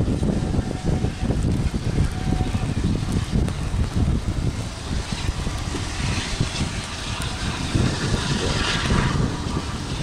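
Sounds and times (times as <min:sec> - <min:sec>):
steam train rumble: 0:00.0 - 0:10.0
wind buffeting microphone: 0:00.0 - 0:10.0.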